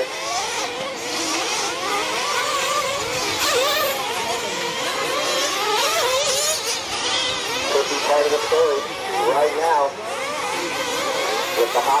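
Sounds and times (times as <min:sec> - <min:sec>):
small nitro engines buzzing: 0:00.0 - 0:12.0.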